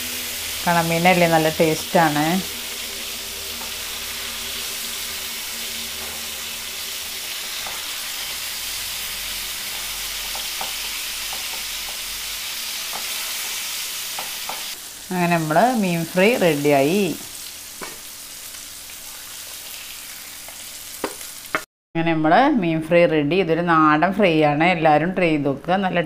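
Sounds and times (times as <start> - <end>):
fish sizzling in hot oil: 0.0 - 21.7.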